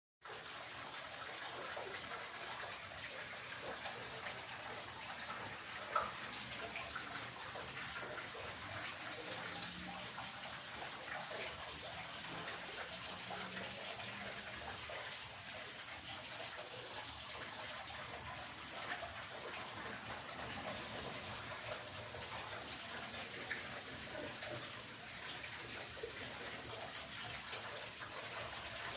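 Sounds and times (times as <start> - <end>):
running water babbling: 0.2 - 28.9.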